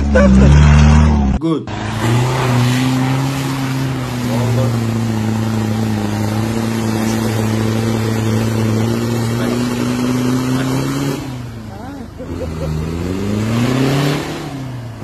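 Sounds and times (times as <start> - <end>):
diesel engine at high revs: 0.0 - 15.0.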